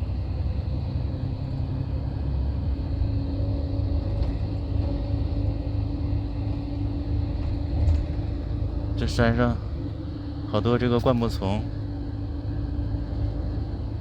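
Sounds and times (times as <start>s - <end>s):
coach cabin road and engine rumble: 0.0s - 14.0s.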